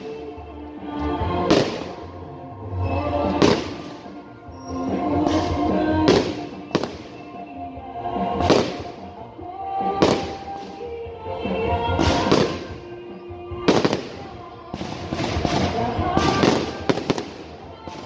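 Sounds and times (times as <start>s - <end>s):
music: 0.0s - 18.0s
fireworks bursting: 1.2s - 7.6s, 8.2s - 9.2s, 9.8s - 11.0s, 12.0s - 18.0s.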